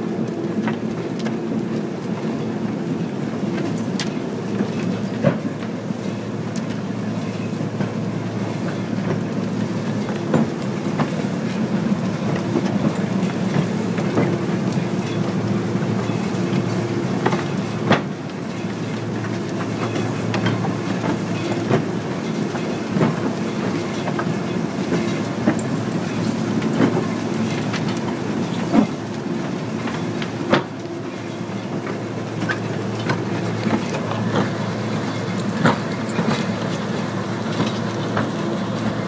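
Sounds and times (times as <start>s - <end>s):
excavator wheel rumbling and clattering: 3.4s - 39.0s.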